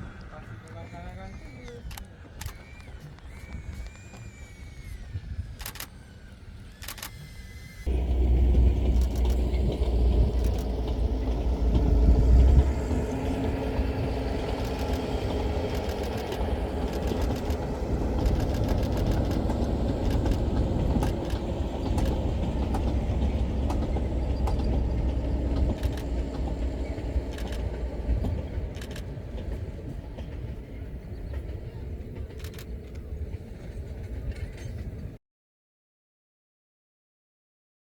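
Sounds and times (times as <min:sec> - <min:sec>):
train rumbling past: 0:00.0 - 0:35.2.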